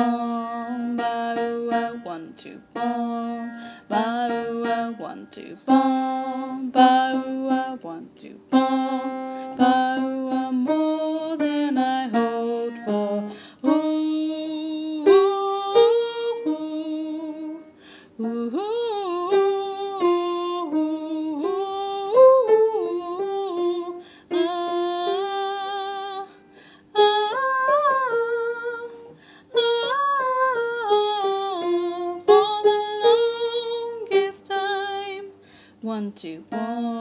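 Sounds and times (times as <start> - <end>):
woman singing wordless harmony: 0.0 - 37.0.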